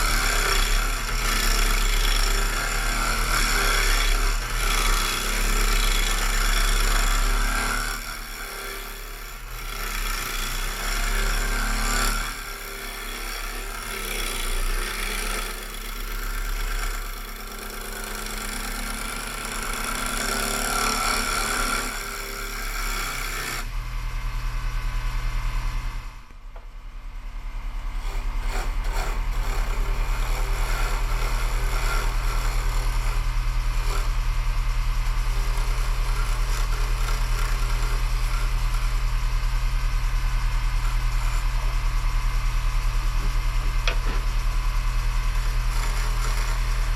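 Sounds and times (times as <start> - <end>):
lathe motor humming: 0.0 - 23.8, 27.5 - 46.9
lathe tool scraping wood: 0.0 - 23.8, 27.7 - 46.9.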